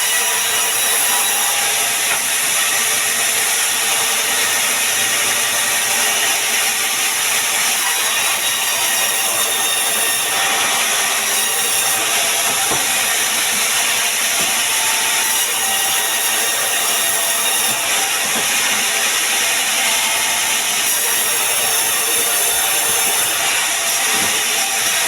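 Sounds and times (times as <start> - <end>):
power saw cutting wood: 0.0 - 25.0.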